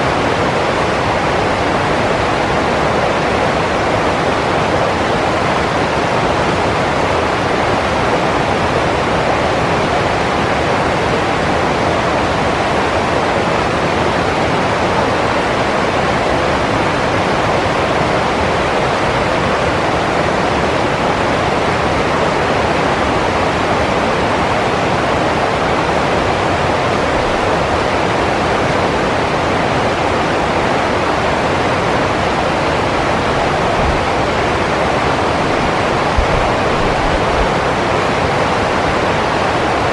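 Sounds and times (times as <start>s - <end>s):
rushing water roar: 0.0s - 39.9s.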